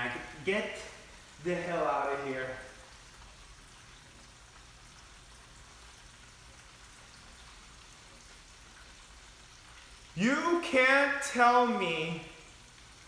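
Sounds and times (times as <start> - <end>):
chicken sizzling in hot oil: 0.0 - 10.2, 11.1 - 13.0.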